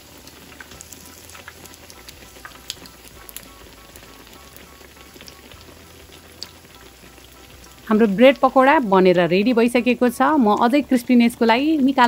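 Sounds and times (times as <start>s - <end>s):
deep-frying sizzle with pops: 0.0s - 12.0s.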